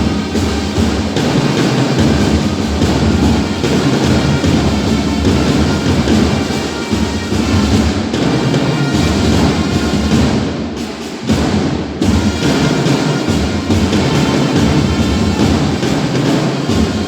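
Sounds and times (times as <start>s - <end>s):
music with drums and percussion: 0.0s - 17.0s.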